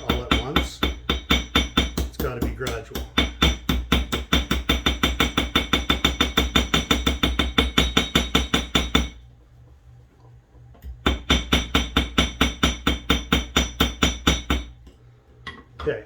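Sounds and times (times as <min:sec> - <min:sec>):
hammer tapping on sheet brass: 0:00.0 - 0:09.2, 0:11.0 - 0:14.8.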